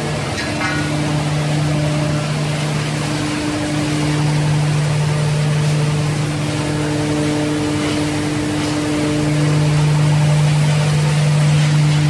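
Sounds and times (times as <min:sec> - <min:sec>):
processing machinery humming: 0:00.0 - 0:12.0.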